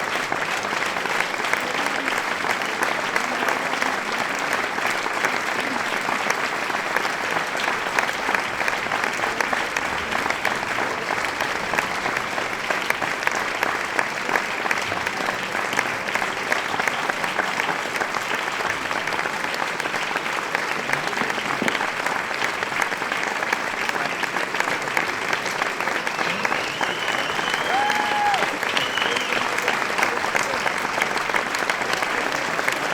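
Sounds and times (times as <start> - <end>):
crowd applauding: 0.0 - 32.9.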